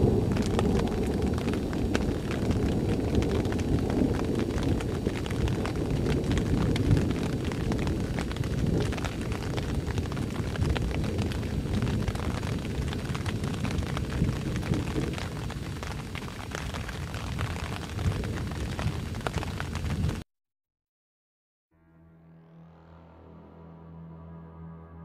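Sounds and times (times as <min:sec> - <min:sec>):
sharp crackles and ticks: 0:00.0 - 0:20.2
wind buffeting microphone: 0:00.0 - 0:20.2.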